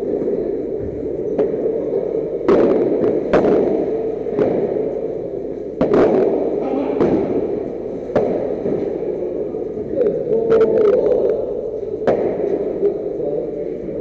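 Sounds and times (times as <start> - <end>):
hall background noise: 0.0 - 14.0.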